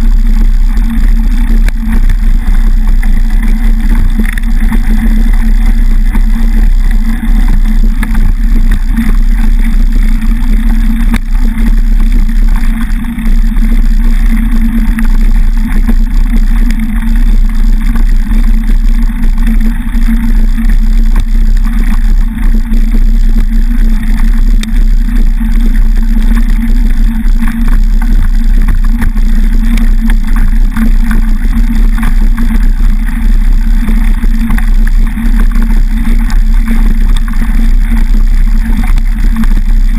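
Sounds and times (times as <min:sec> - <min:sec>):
bike rolling on gravel: 0:00.0 - 0:39.9
wind rumble on camera: 0:00.0 - 0:39.9.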